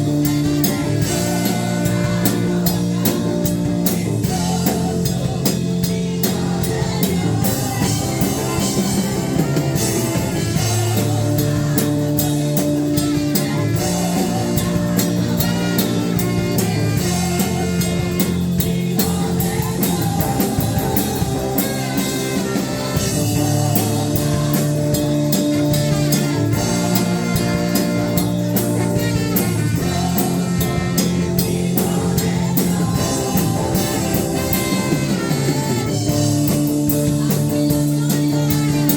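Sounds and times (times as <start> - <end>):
drum kit beat: 0.0 - 38.9
worship band music: 0.0 - 38.9.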